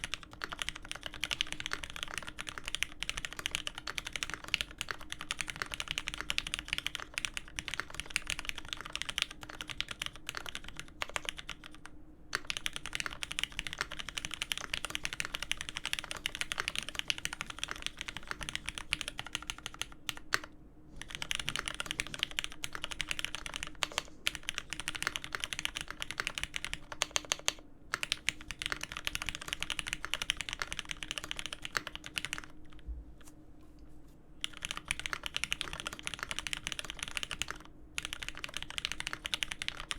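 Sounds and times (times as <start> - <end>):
mechanical keyboard typing: 0.0 - 32.8, 34.4 - 39.9.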